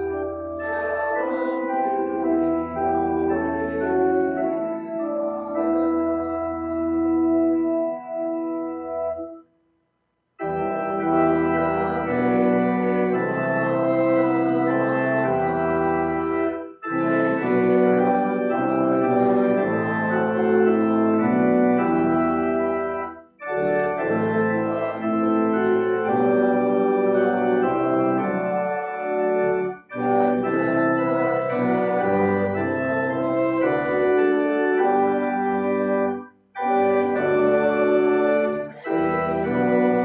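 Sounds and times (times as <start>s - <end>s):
church organ playing chords: 0.0s - 9.5s, 10.4s - 40.0s.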